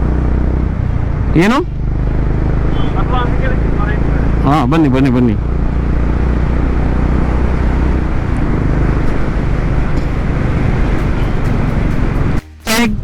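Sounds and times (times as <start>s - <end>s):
motorcycle engine hum: 0.0s - 13.0s.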